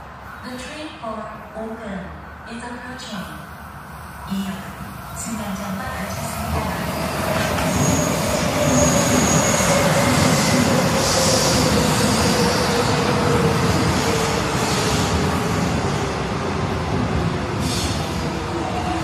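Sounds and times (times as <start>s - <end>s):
metro train running noise: 0.0s - 19.0s.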